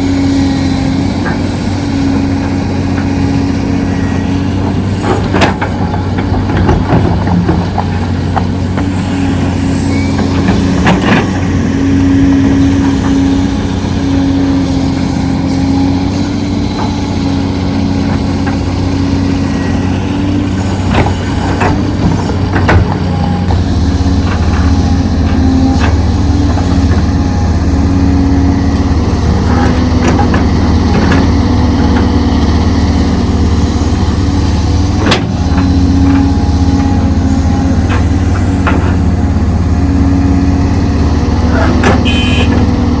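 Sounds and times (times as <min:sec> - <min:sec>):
heavy diesel machinery running: 0:00.0 - 0:43.0.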